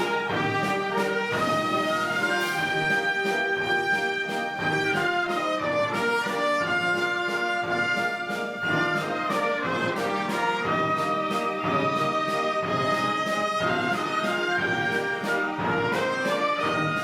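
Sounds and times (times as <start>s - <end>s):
orchestra playing a waltz: 0.0s - 17.0s.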